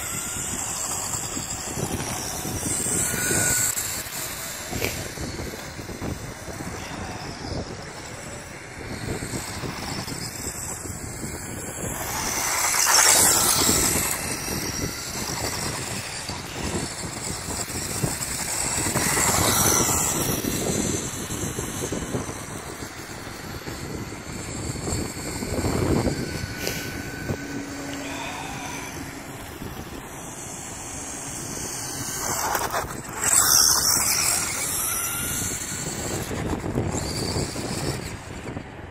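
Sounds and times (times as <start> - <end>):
rc car motor and tyres: 0.0 - 38.9
wind on microphone: 0.0 - 38.9.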